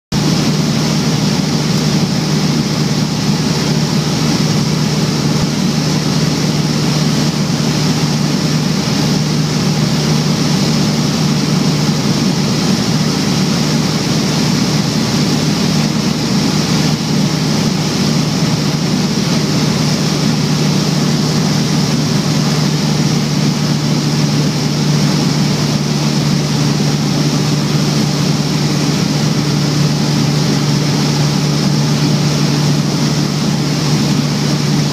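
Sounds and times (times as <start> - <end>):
propeller plane engine droning: 0.1 - 34.9.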